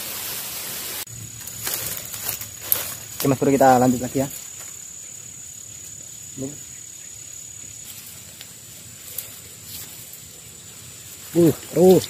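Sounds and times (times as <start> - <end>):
insect buzzing call: 0.0 - 12.0.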